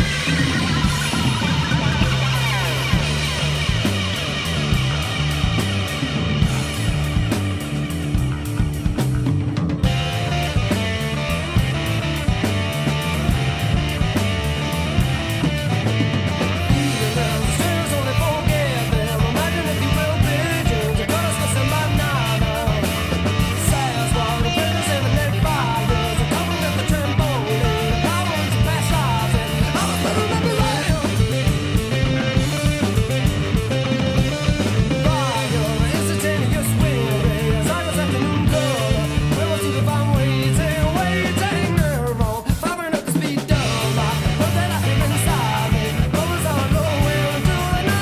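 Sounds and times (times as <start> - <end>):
electric guitar lines: 0.0 - 42.2, 43.5 - 48.0
drum beat: 0.0 - 48.0.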